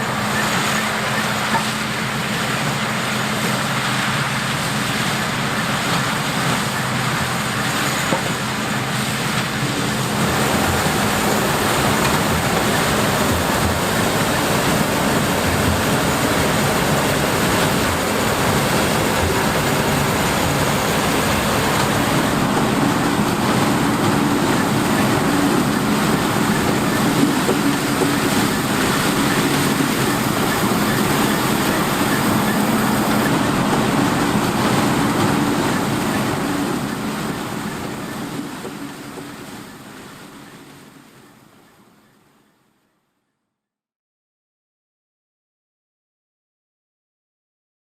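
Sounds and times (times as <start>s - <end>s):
diesel engine drone: 0.0s - 40.2s.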